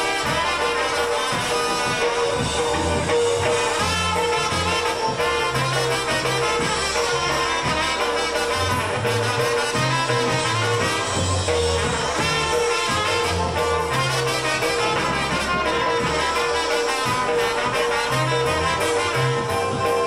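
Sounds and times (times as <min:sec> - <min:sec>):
polka band playing: 0:00.0 - 0:20.0
trumpets: 0:00.0 - 0:20.0.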